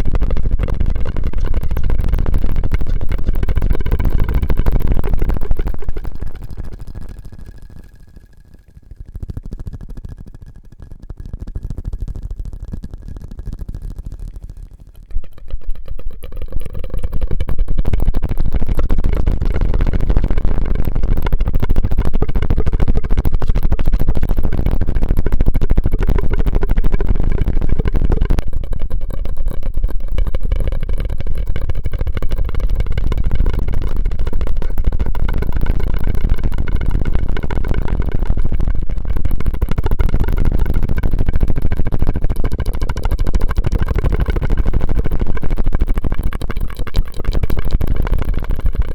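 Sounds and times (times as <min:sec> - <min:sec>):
rapid mouth clicks and crackles: 0:00.0 - 0:48.9.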